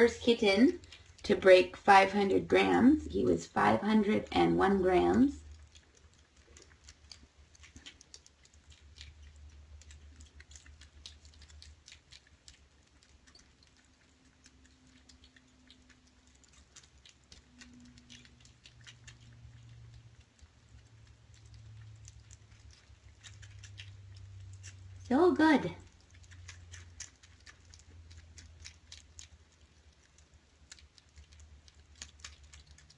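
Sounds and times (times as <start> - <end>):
kittens chewing and eating: 0.0 - 32.9.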